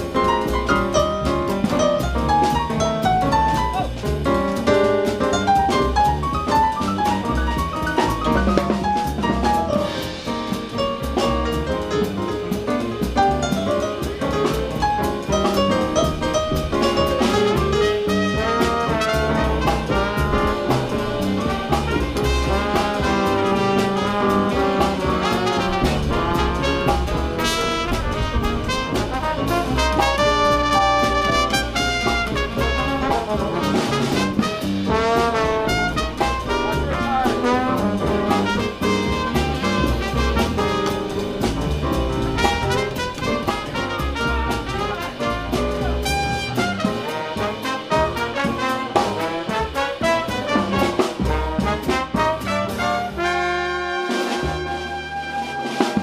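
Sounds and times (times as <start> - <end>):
horn lines: 0.0 - 56.0
piano bass and drums: 0.0 - 56.0.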